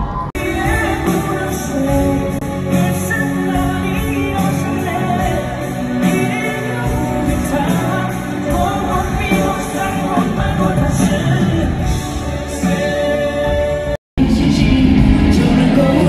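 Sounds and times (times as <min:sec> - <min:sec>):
man singing with a band: 0:00.3 - 0:16.0.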